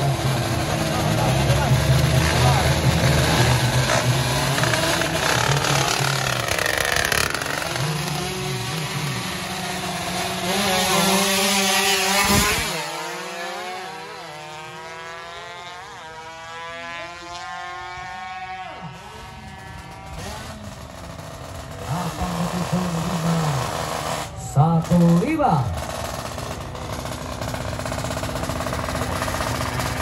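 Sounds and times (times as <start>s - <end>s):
motorcycle revving and accelerating: 0.0s - 30.0s.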